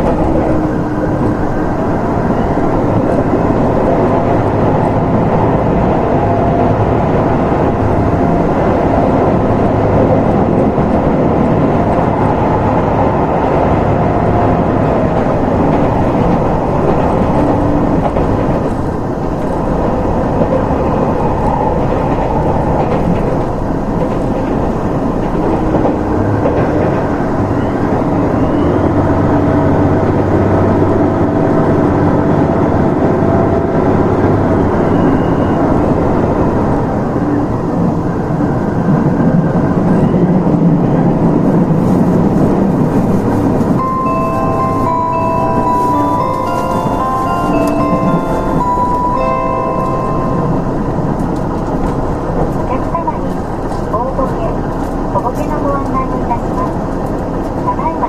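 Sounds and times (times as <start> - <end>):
rail and wheel noise: 0.0 - 58.0.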